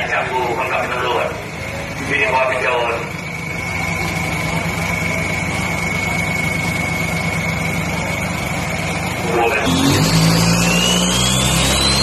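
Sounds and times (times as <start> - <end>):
diesel engine idling: 0.0 - 12.0
steady high whine: 0.0 - 12.0.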